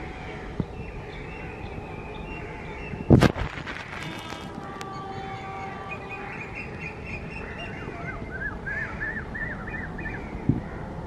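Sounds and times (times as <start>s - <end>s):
bird chirping: 0.1s - 10.5s.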